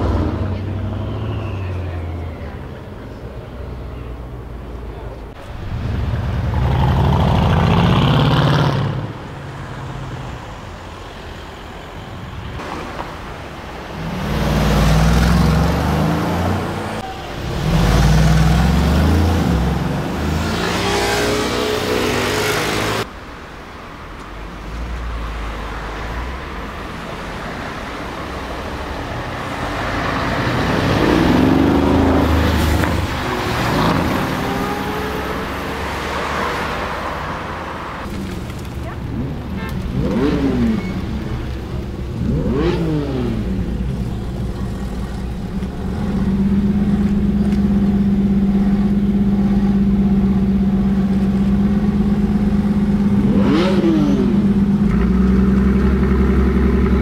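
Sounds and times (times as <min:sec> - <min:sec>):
car engines revving and accelerating: 0:05.3 - 0:10.2, 0:12.6 - 0:23.1, 0:25.2 - 0:57.0.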